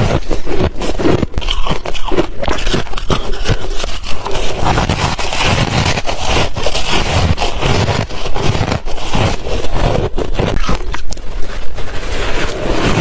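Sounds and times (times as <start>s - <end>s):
ice crunching between teeth: 0.0s - 13.0s.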